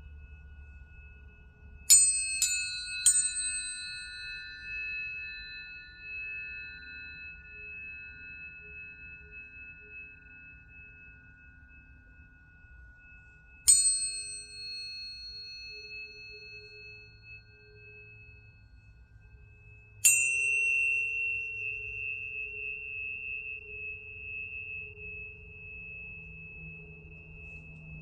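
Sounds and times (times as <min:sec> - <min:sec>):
lower tuning fork tone: 0:00.0 - 0:28.0
tuning fork ringing: 0:00.0 - 0:28.0.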